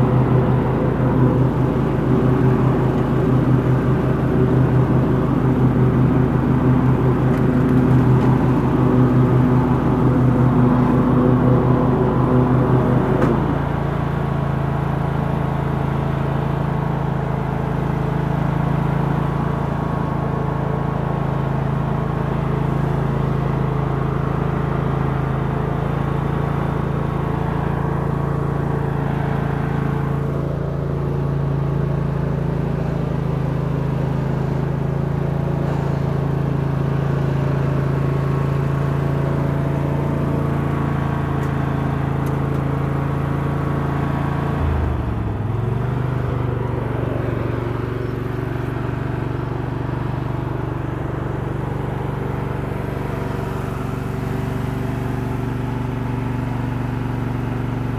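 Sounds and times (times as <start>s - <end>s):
lawn tractor engine running: 0.0s - 57.9s.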